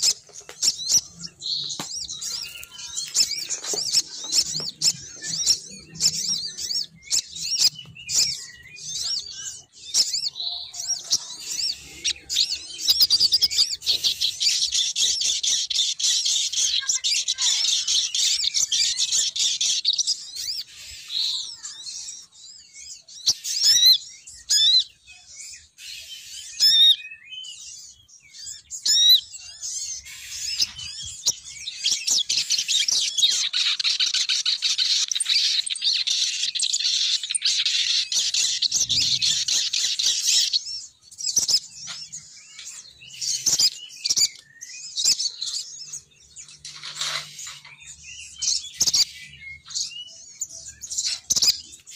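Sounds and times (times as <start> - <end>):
bird chirping and twittering: 0.0 - 51.9.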